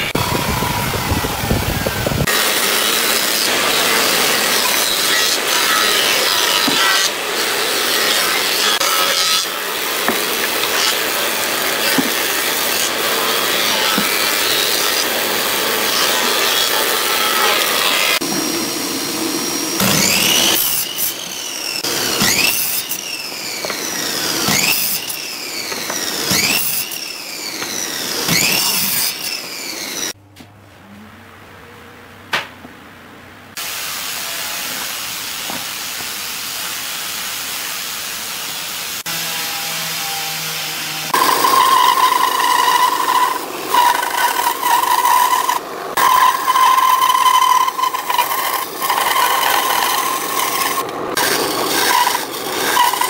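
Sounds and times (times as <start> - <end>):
miter saw cutting wood: 0.0 - 30.2, 38.9 - 53.0.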